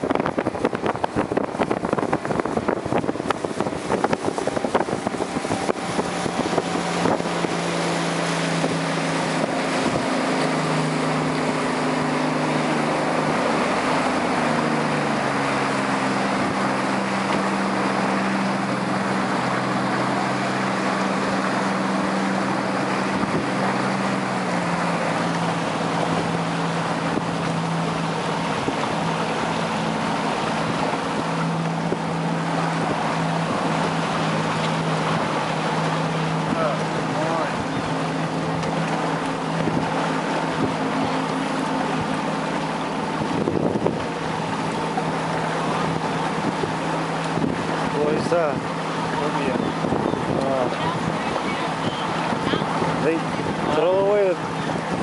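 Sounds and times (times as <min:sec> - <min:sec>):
motorboat engine running: 0:00.0 - 0:55.0
wind and water rushing: 0:00.0 - 0:55.0.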